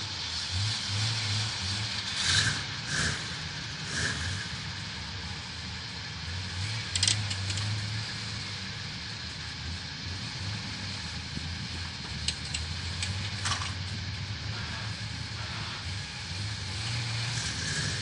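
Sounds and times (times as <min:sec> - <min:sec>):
jeep engine running low: 0:00.0 - 0:18.0.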